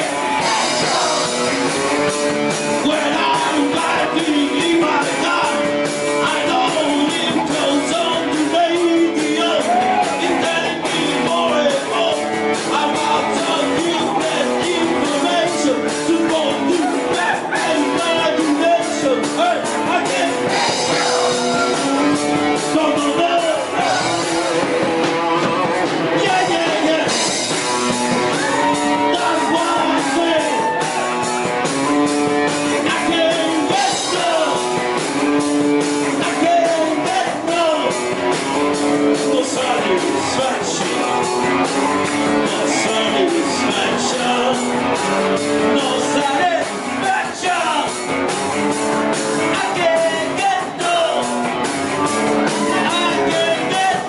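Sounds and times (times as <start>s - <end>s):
person singing: 0.0s - 24.7s, 25.5s - 27.3s, 28.2s - 31.5s, 32.6s - 34.9s, 36.0s - 38.0s, 39.1s - 48.0s, 49.3s - 51.4s, 52.0s - 54.0s
live rock band playing: 0.0s - 54.0s.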